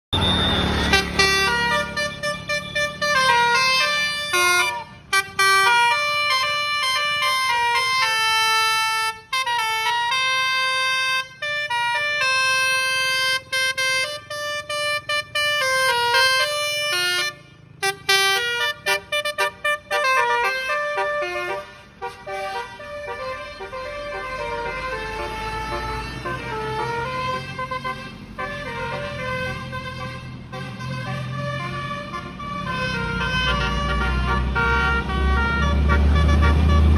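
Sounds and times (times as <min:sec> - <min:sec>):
bus horn playing a melody: 0:00.2 - 0:36.9.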